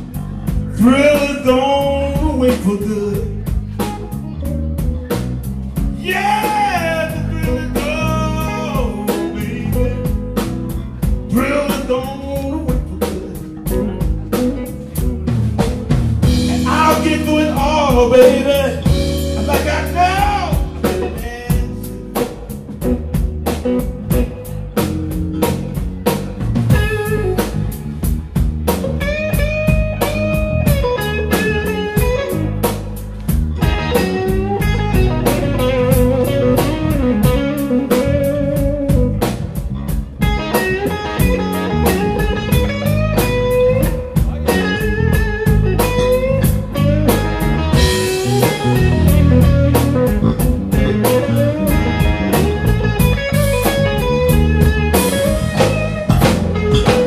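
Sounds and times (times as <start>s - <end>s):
bass: 0.0s - 57.0s
lead line with bent notes: 0.0s - 57.0s
live blues band: 0.0s - 57.0s
steady drum beat: 0.0s - 57.0s.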